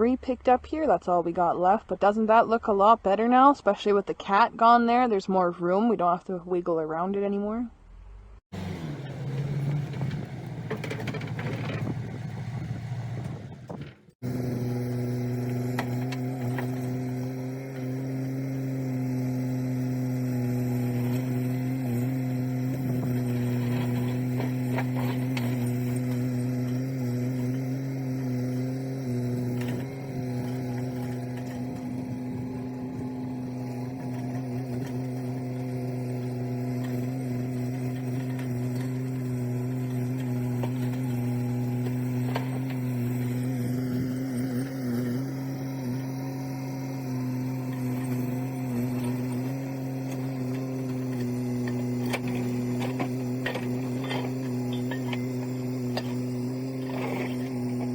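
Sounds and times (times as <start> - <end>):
engine running steadily: 8.4 - 57.9.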